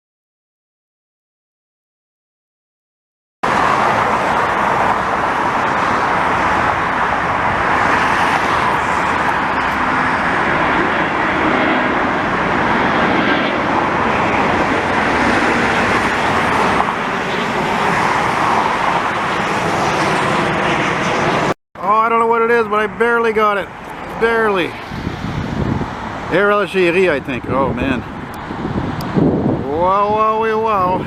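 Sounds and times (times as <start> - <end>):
airliner jet roar overhead: 3.4 - 31.0.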